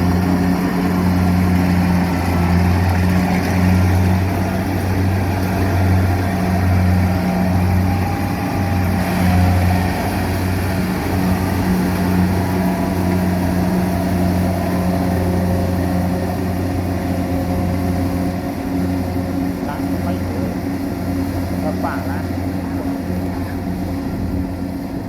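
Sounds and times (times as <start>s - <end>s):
combine harvester engine humming: 0.0s - 25.0s.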